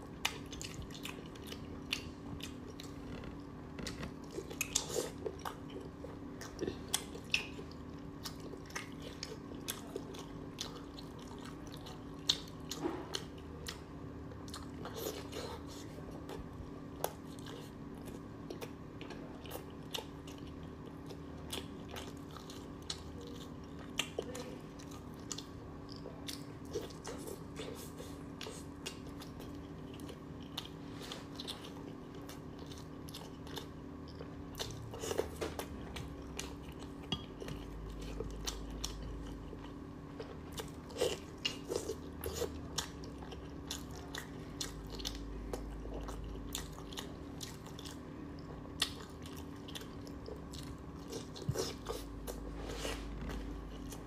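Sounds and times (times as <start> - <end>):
steady low hum: 0.0 - 54.0
close chewing and biting: 0.1 - 54.0.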